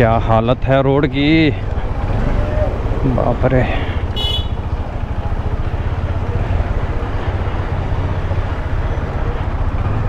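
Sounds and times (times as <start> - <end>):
motorcycle engine running: 1.7 - 10.0.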